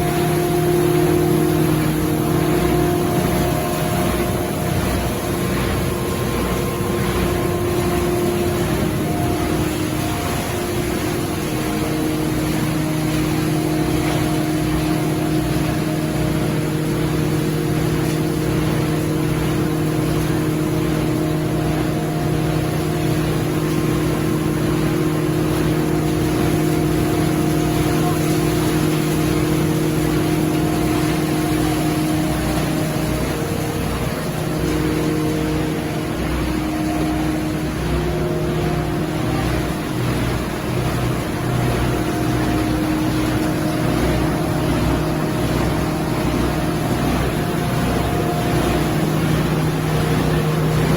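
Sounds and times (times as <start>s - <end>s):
factory machinery drone: 0.0s - 50.9s
humming motor tones: 0.0s - 50.9s.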